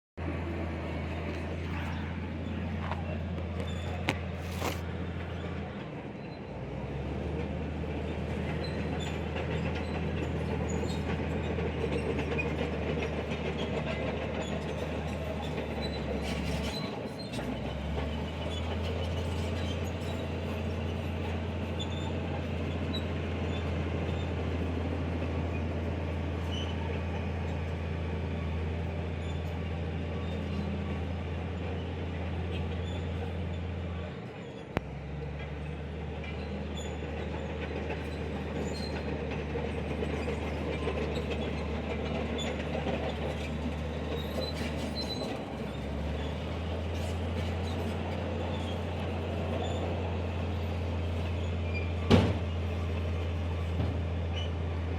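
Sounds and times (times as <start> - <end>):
diesel machinery droning: 0.1 - 54.9
metallic clatter and squeal: 0.9 - 6.6, 7.4 - 54.9.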